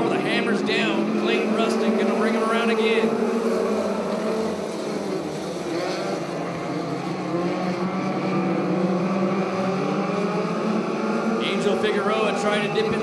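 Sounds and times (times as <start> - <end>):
race car engines at full throttle: 0.0 - 13.0.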